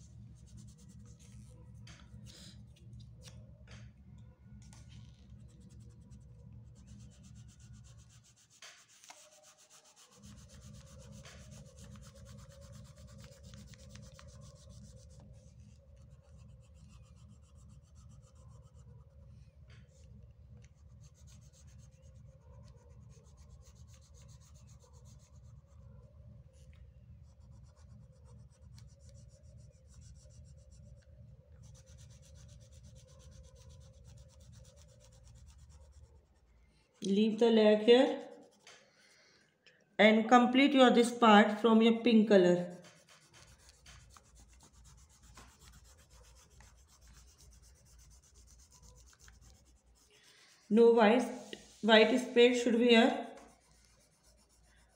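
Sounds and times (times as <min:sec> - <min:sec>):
oil pastel rubbing on paper: 0:00.0 - 0:02.9, 0:04.6 - 0:26.0, 0:27.2 - 0:36.6, 0:37.8 - 0:39.1, 0:42.6 - 0:54.9.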